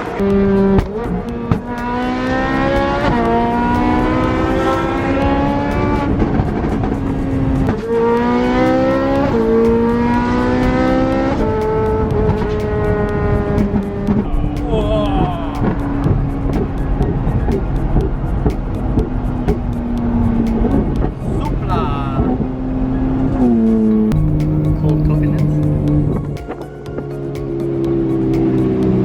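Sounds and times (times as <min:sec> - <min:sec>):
sports car engine accelerating: 0:00.0 - 0:29.0.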